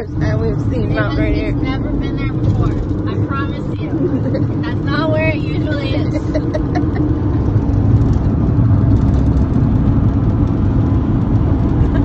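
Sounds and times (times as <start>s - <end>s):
engine and road noise inside van: 0.0s - 12.0s.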